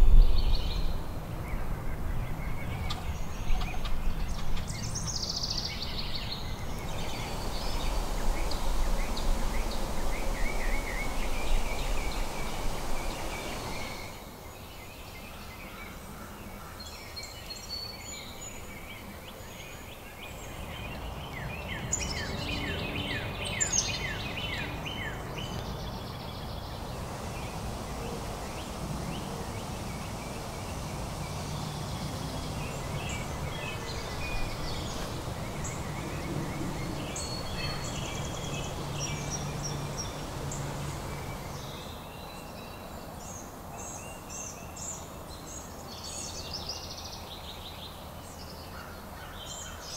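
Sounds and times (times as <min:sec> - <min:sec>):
birds singing and calling: 0:00.0 - 0:49.9
steady background hiss: 0:00.0 - 0:49.9.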